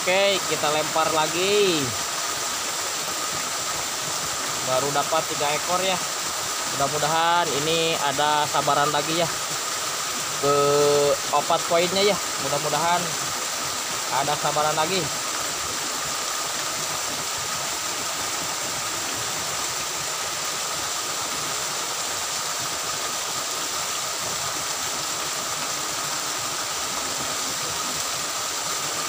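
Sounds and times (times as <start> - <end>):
water cascading into pool: 0.0 - 29.0.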